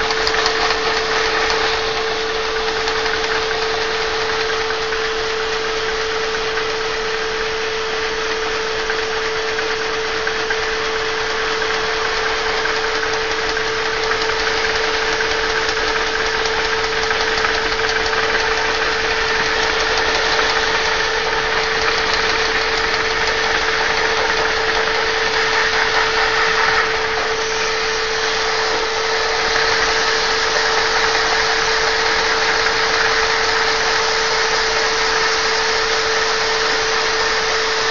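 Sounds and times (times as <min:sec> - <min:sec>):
toy vacuum engine running: 0:00.0 - 0:37.9
vacuum cleaner humming: 0:00.0 - 0:37.9.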